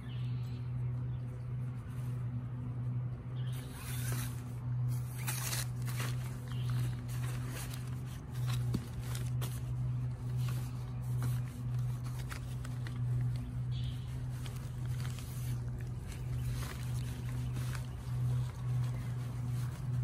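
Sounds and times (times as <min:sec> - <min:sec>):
steady low hum: 0:00.0 - 0:20.0
tent fabric rustling: 0:03.6 - 0:20.0.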